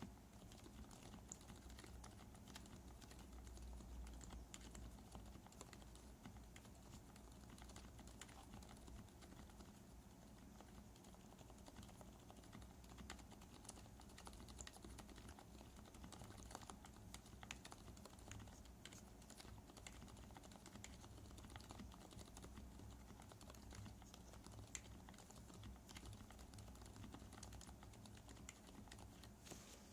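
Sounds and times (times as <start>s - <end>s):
muted mechanical keyboard typing: 0.0s - 29.4s.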